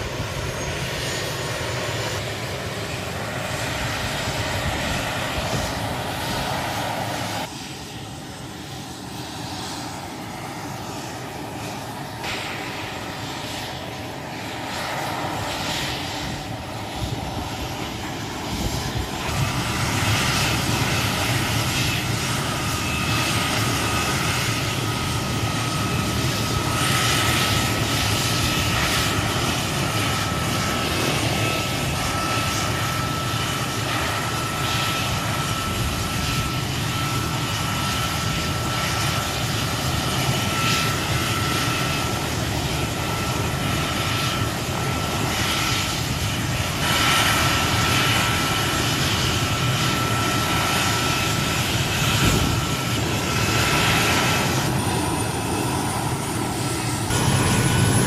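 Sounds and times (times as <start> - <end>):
helicopter turbine engines running: 0.0 - 58.0.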